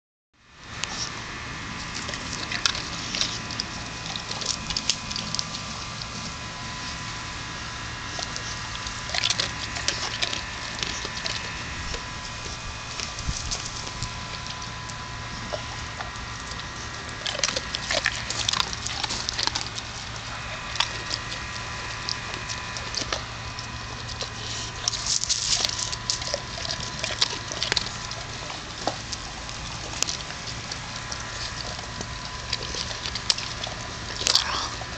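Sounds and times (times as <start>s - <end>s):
faint steady hum: 0.4s - 34.9s
dog crunching hard biscuits: 1.7s - 34.9s.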